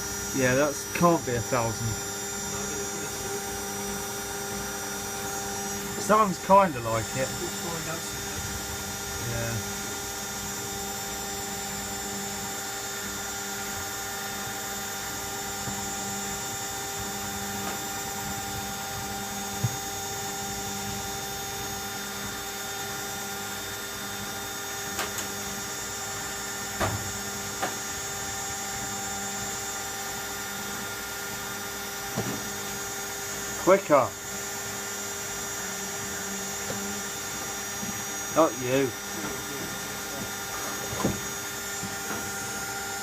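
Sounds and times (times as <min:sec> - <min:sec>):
washing machine spinning whine: 0:00.0 - 0:43.0.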